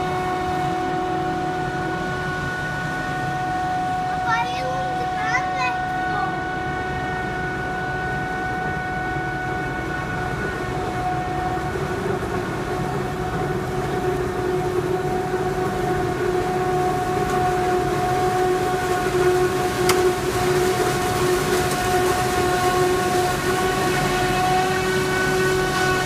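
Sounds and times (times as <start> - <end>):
forage harvester chopper whine: 0.0 - 26.0
low engine rumble: 0.0 - 26.0.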